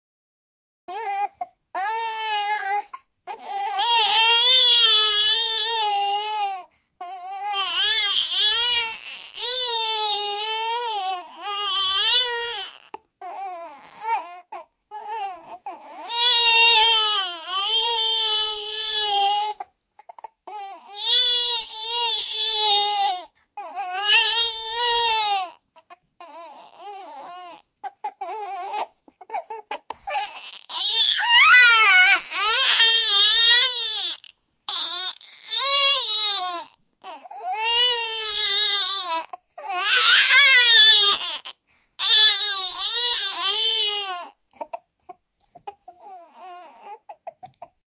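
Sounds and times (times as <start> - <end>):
baby crying: 0.9 - 44.8, 45.6 - 47.5.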